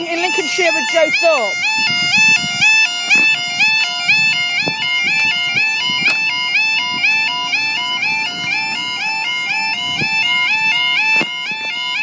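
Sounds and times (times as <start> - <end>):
level crossing two-tone alarm: 0.0 - 12.0.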